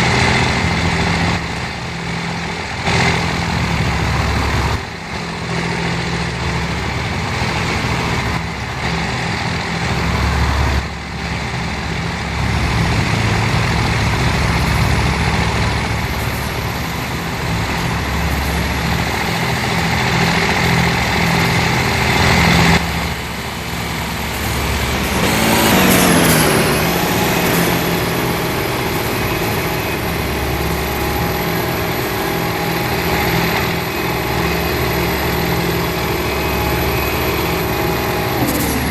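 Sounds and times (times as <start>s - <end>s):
truck engines rumbling: 0.0s - 38.9s.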